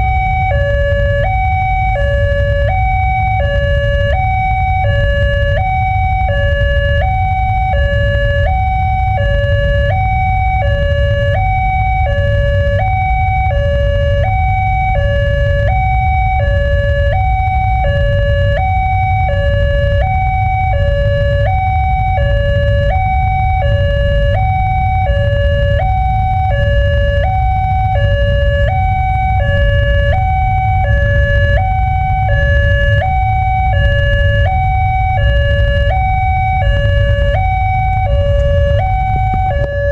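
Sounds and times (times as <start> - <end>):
level-crossing warning siren: 0.0 - 39.9.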